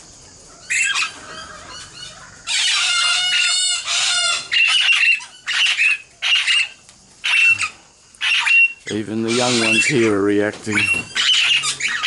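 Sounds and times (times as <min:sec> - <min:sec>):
parrots screeching: 0:00.6 - 0:12.0.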